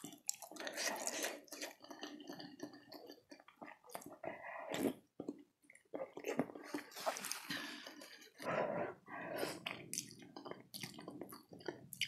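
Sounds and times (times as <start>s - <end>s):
person chewing soft food: 0.0s - 12.0s.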